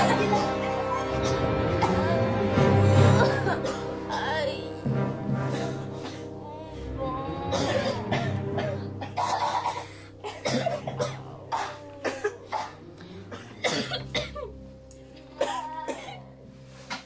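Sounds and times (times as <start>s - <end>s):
background music drone: 0.0s - 17.0s
children coughing: 0.0s - 17.0s.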